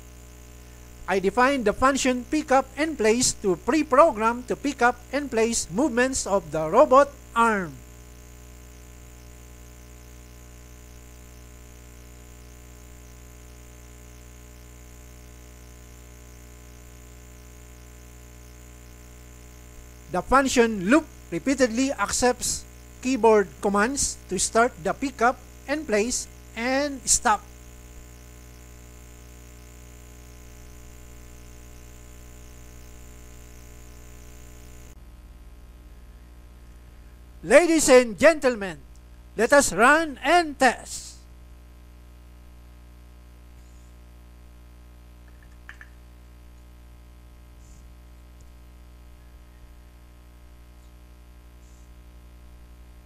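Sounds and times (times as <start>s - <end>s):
buzzy electrical hum: 0.0s - 53.0s.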